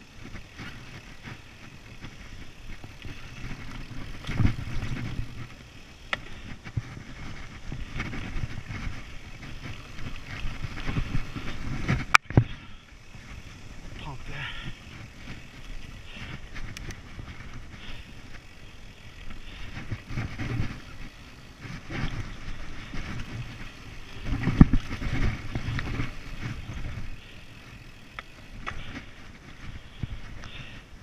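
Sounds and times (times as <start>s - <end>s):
bike rattling over bumps: 0.0s - 31.0s
bike tyres rumbling on dirt: 0.0s - 31.0s.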